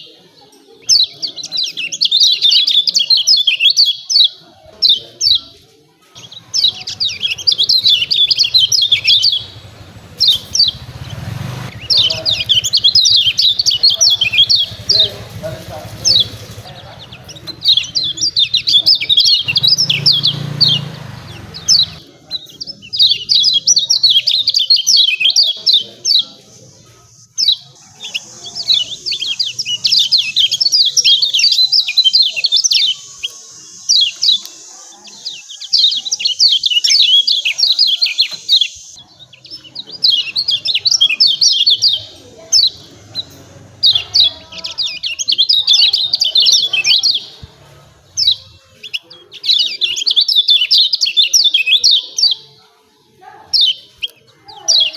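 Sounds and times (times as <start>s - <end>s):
bird chattering call: 6.2s - 22.1s, 22.7s - 51.8s.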